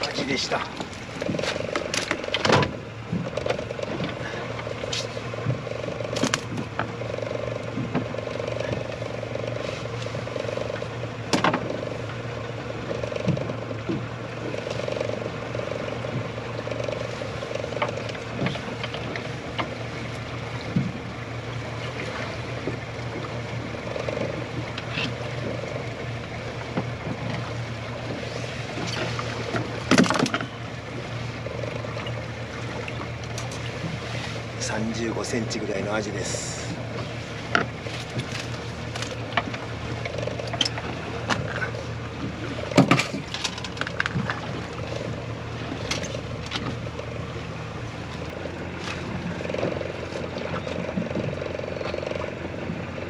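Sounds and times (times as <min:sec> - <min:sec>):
boat low hum: 0:00.0 - 0:53.0.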